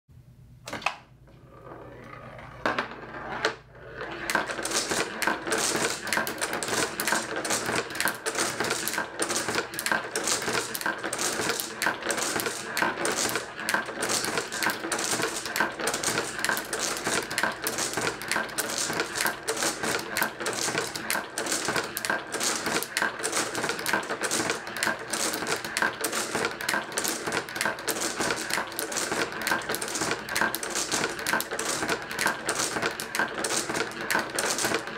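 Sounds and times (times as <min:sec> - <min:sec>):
marbles clattering on tracks: 0:01.5 - 0:34.9.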